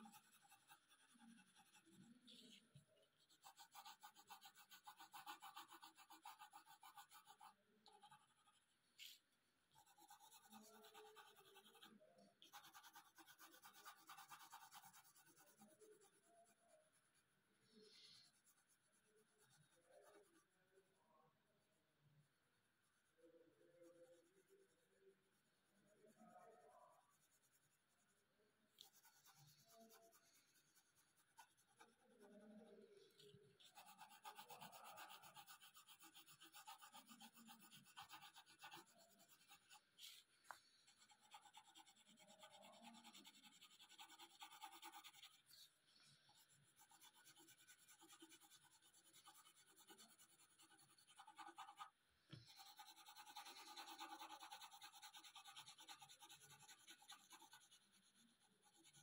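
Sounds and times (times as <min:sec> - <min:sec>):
pencil scratching on paper: 0:00.0 - 0:20.6, 0:23.8 - 0:59.0.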